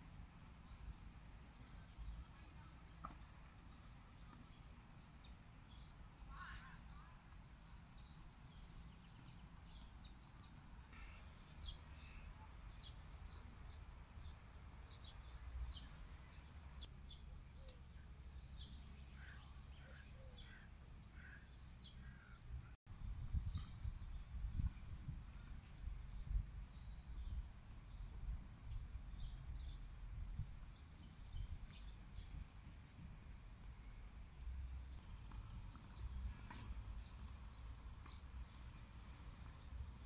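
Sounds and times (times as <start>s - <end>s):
small birds chirping: 0.4s - 40.0s.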